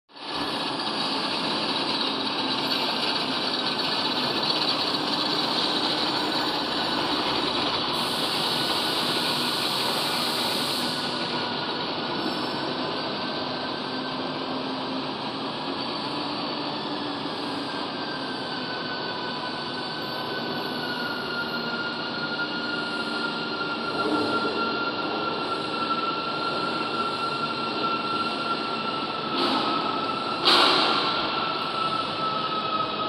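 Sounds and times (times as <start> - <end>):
lathe whirring: 0.2 - 33.0.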